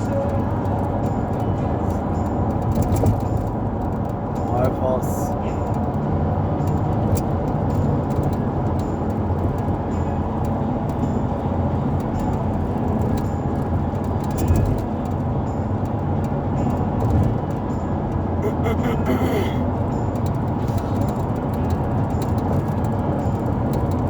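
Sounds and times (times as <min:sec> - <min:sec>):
vehicle engine and road rumble: 0:00.0 - 0:24.0.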